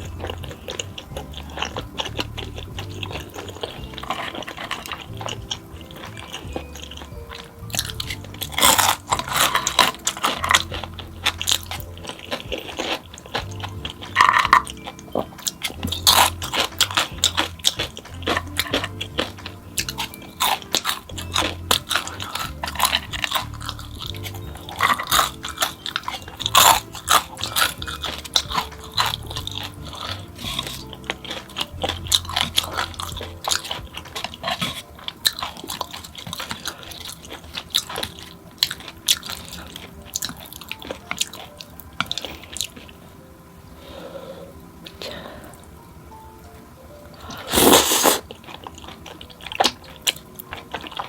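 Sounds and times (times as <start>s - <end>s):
crunching and chewing snacks: 0.0s - 45.8s, 46.7s - 51.0s
background music: 0.0s - 51.0s.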